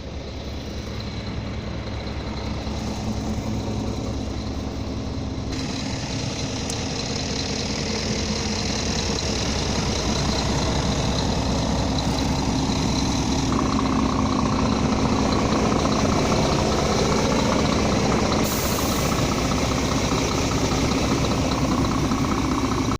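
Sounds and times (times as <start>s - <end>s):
truck diesel engine idling: 0.0s - 22.9s.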